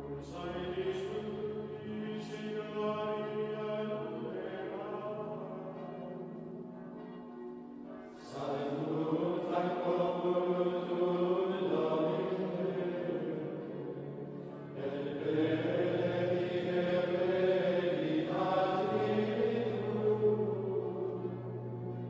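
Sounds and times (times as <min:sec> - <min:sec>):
slow music of held tones: 0:00.0 - 0:22.0.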